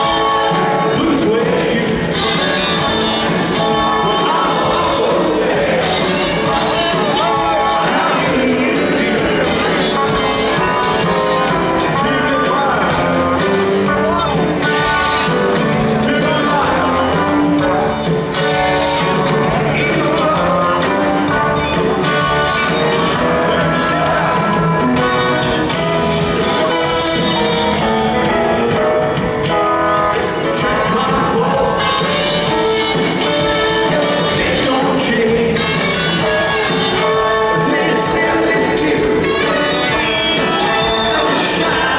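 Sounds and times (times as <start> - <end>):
live rock band playing: 0.0 - 41.9
person singing lead vocals: 0.0 - 41.9.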